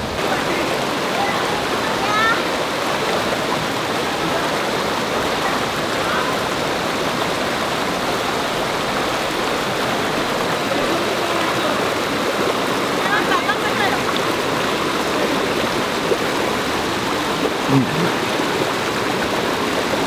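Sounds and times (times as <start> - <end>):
waterfall pouring: 0.0 - 20.0.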